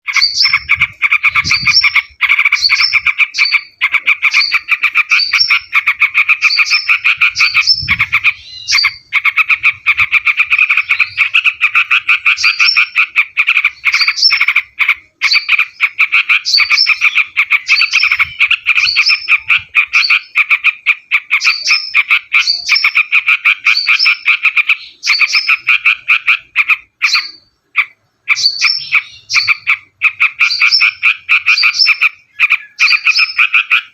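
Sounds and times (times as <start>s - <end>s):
high upswept bird notes: 0.0s - 33.8s
bulbul chattering call: 0.0s - 33.9s.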